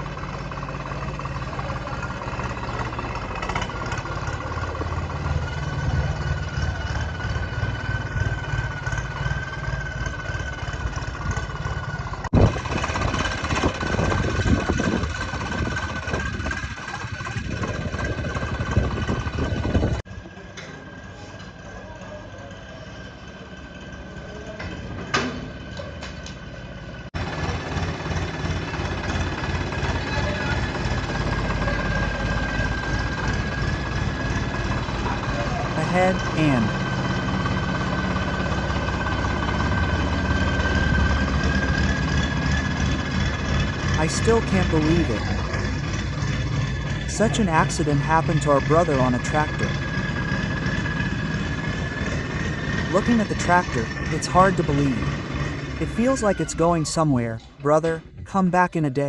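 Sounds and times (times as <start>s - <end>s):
engine whine: 0.0s - 59.0s
tractor diesel engine running: 0.0s - 59.0s.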